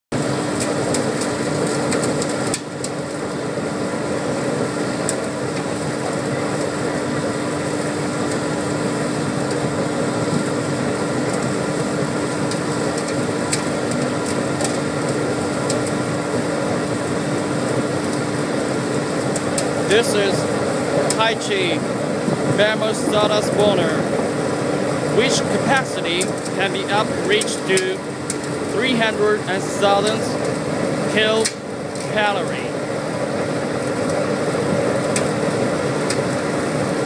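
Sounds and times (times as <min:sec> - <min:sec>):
blower hum: 0:00.1 - 0:37.0
burner flame roaring: 0:00.1 - 0:37.0.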